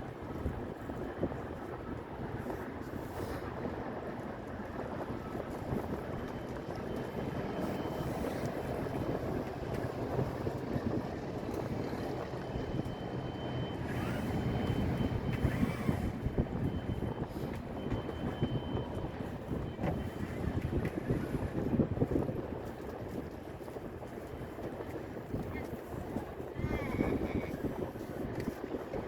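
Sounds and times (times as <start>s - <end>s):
sailboat rushing through water: 0.0s - 29.0s
wind buffeting the microphone: 0.0s - 29.0s.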